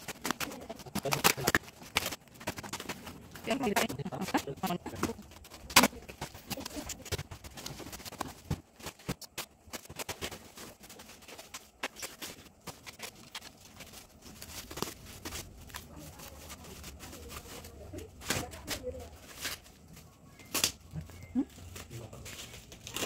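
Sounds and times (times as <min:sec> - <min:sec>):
cardboard and plastic wrap rustling: 0:00.0 - 0:23.0.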